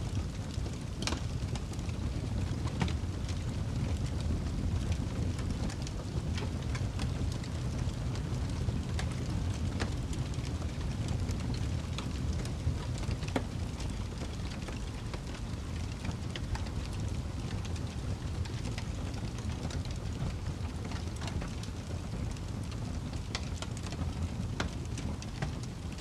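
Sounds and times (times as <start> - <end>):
low rumble of flames: 0.0 - 26.0
wood crackling and popping: 0.0 - 26.0.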